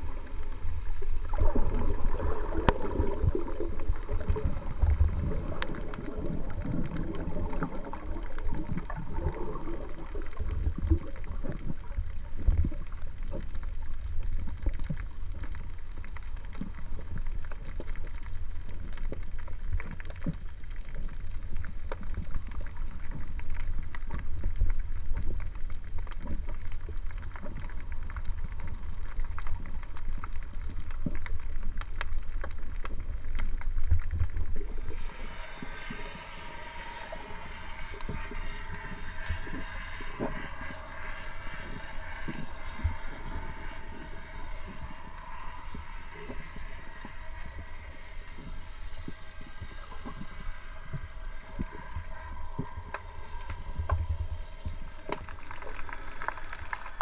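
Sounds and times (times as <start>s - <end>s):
underwater clicks and crackles: 0.0s - 57.0s
underwater low rumble: 0.0s - 57.0s
water movement: 0.0s - 57.0s.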